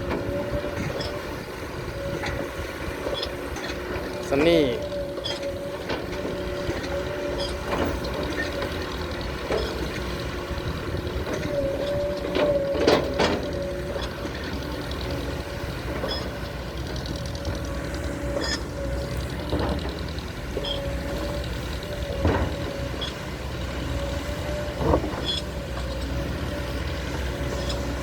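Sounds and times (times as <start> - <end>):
constant whining tone: 0.0 - 28.0
excavator engine rumble: 0.0 - 28.0.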